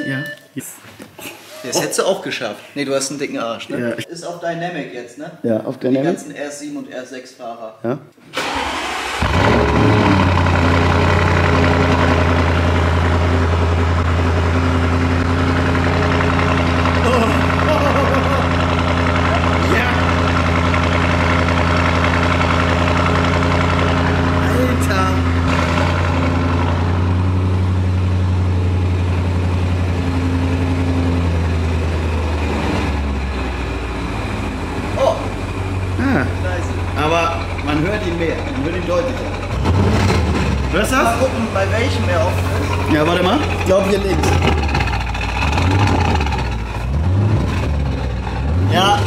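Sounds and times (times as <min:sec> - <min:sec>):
car engine idling: 0:08.4 - 0:49.0.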